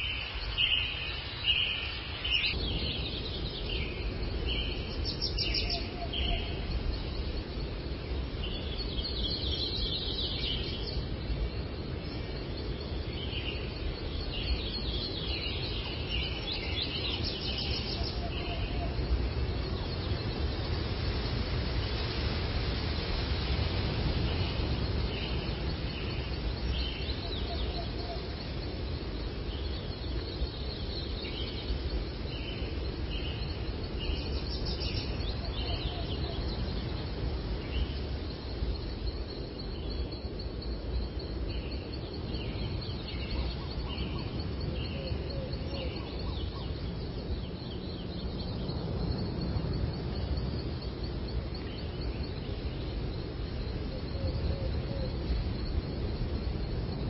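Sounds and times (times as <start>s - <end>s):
birds singing: 0.0s - 20.8s, 24.2s - 55.9s.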